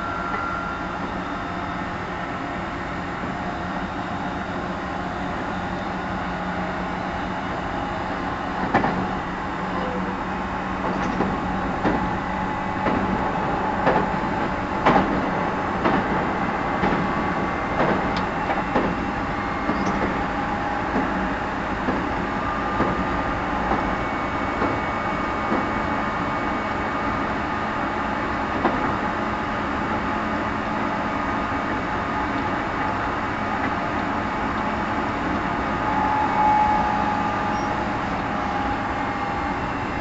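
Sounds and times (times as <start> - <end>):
train wheels rumbling: 0.0 - 40.0.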